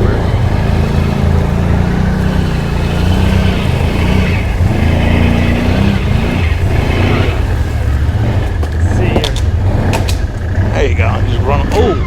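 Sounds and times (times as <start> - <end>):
quad engine running hard: 0.0 - 12.0.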